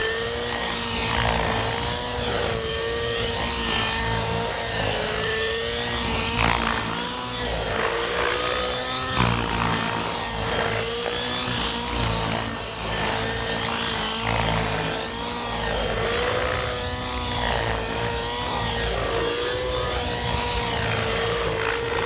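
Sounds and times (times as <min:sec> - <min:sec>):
model helicopter rotor whine: 0:00.0 - 0:22.0
rotor blades swishing: 0:00.0 - 0:22.0.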